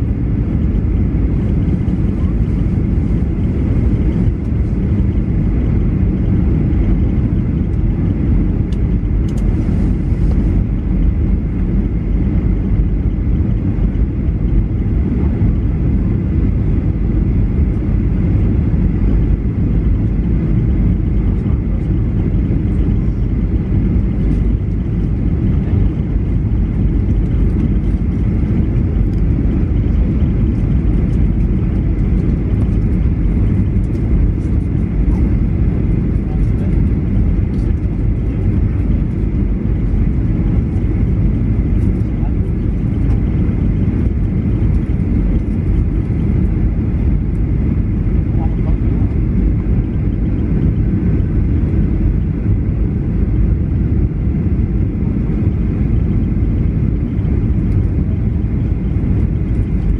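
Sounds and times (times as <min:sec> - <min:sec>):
airplane cabin drone: 0:00.0 - 0:59.9
turbofan engines: 0:00.0 - 0:59.9.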